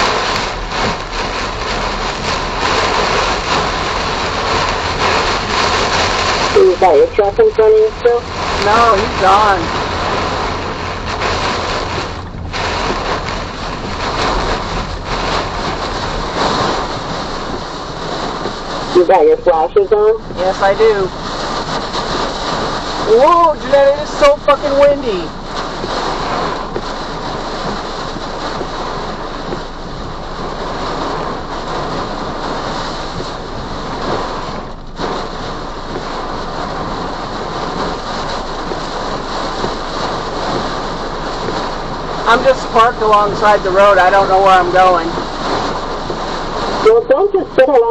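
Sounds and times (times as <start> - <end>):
heavy rain on a car: 0.0 - 47.9
low road rumble: 0.0 - 47.9
strong wind gusts: 0.0 - 47.9.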